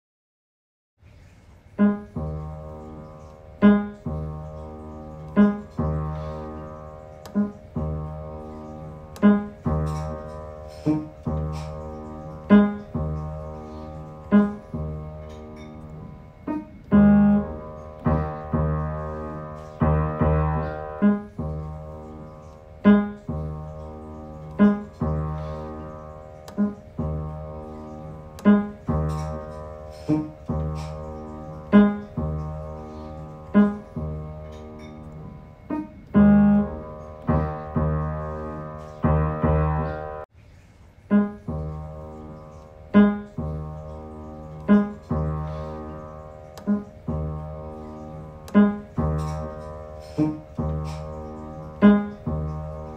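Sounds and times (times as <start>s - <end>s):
slow piano chords: 1.4s - 40.3s, 40.9s - 52.9s.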